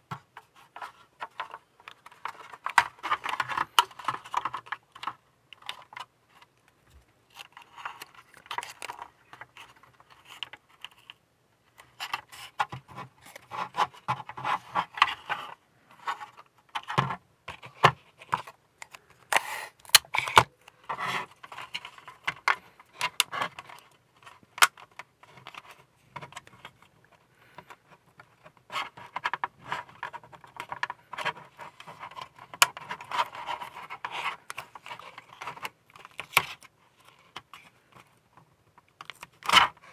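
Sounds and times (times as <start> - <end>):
plastic parts clicking and rustling: 0.0 - 39.9.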